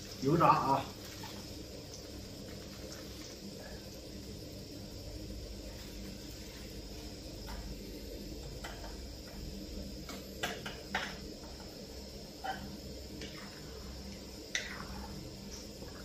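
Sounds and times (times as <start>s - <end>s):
oil sizzling: 0.0s - 16.0s
stove hum: 0.0s - 16.0s.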